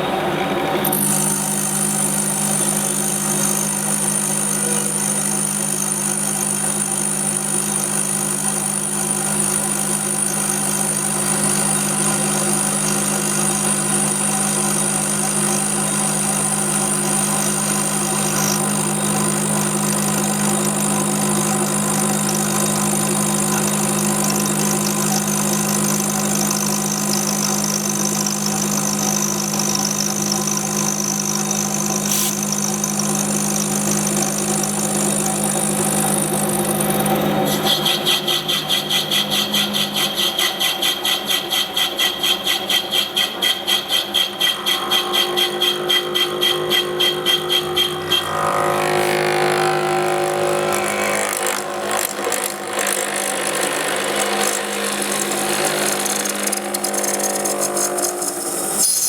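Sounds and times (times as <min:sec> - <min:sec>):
lathe humming with high whine: 0:00.0 - 0:59.0.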